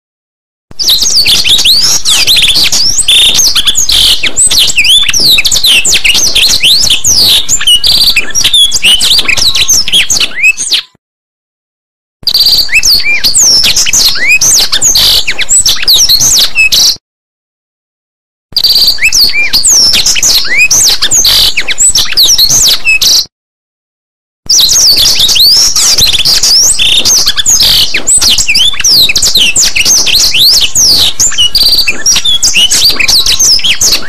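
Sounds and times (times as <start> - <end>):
bird singing whistles and chirps: 0.7 - 11.0, 12.2 - 17.0, 18.6 - 23.3, 24.5 - 34.0.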